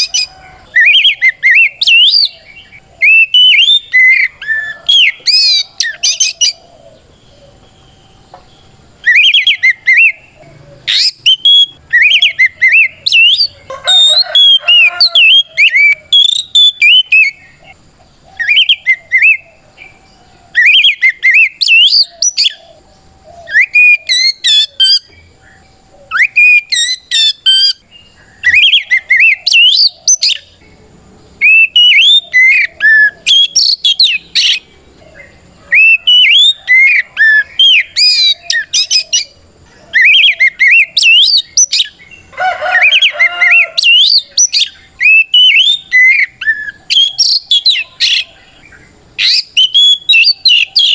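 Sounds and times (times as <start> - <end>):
magpie-robin singing whistles: 0.0 - 6.6, 9.0 - 17.5, 18.4 - 19.4, 20.5 - 22.6, 23.4 - 25.1, 26.1 - 27.8, 28.4 - 30.5, 31.4 - 34.6, 35.2 - 42.2, 42.8 - 48.3, 49.2 - 50.9.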